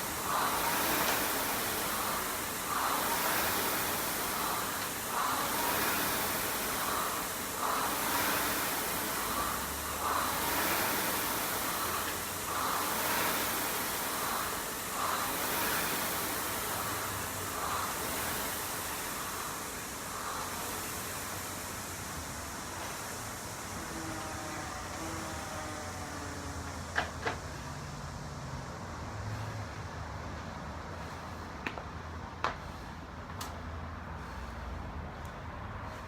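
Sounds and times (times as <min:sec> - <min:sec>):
steady background hiss: 0:00.0 - 0:36.0.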